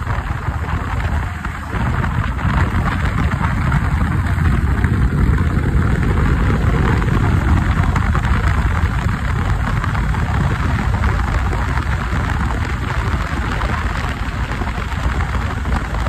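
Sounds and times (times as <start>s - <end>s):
motorcycle engine at speed: 0.0s - 16.0s
wind rush: 0.0s - 16.0s.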